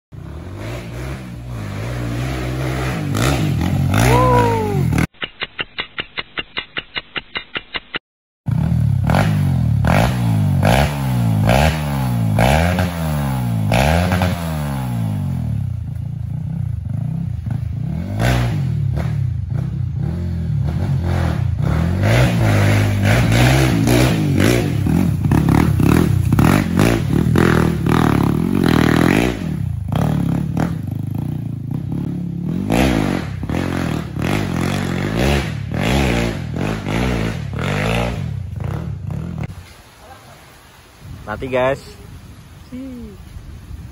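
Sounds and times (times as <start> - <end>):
dirt bike engine revving: 0.2 - 5.1, 8.5 - 39.5.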